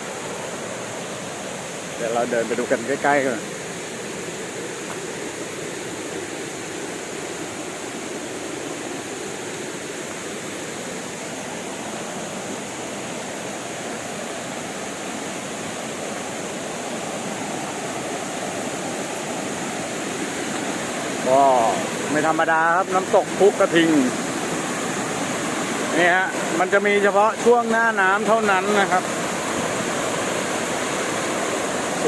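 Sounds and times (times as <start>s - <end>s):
waterfall rushing over rocks: 0.0s - 32.0s.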